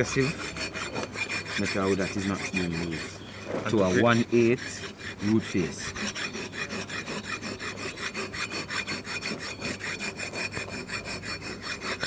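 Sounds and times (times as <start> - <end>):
file rasping on steel: 0.0 - 12.0.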